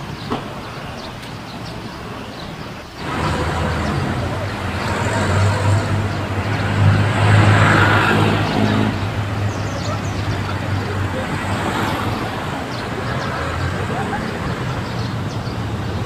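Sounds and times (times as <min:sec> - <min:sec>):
traffic engine hum: 0:00.0 - 0:16.0
vehicle passing: 0:03.0 - 0:16.0.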